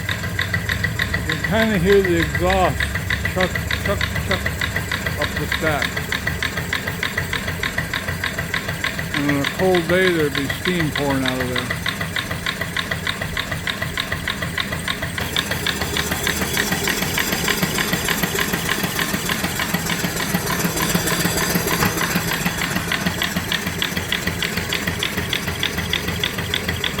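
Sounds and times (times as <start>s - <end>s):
steady low hum: 0.0s - 26.8s
steam engine exhaust chuffing: 0.0s - 27.0s.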